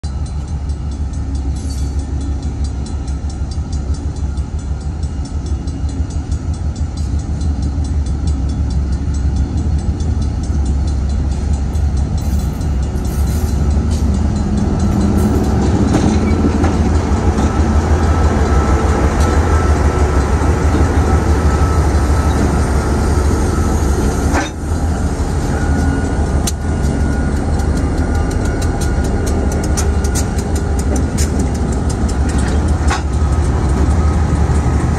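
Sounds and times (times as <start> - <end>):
diesel locomotive engine drone: 0.0 - 34.9
wheels clicking on rails: 0.0 - 34.9.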